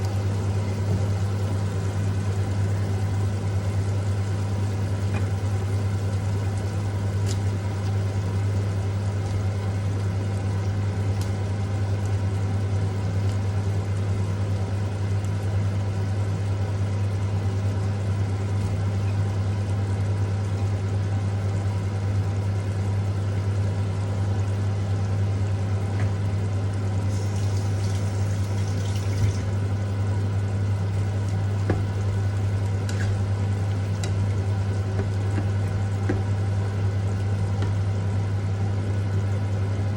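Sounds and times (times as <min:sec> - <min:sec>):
appliance motor humming: 0:00.0 - 0:16.1, 0:22.4 - 0:39.9.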